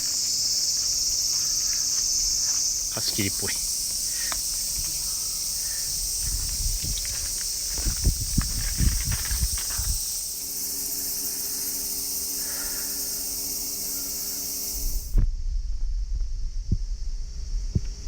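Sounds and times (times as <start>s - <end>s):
insects chirring: 0.0s - 15.2s.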